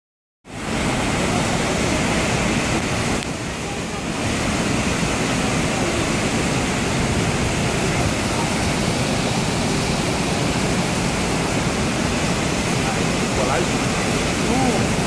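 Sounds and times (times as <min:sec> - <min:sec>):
waterfall rushing: 0:00.5 - 0:15.0.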